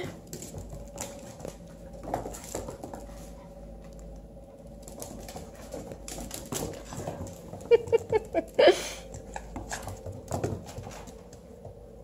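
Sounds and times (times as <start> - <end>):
paws skittering on wooden floor: 0.0 - 12.0.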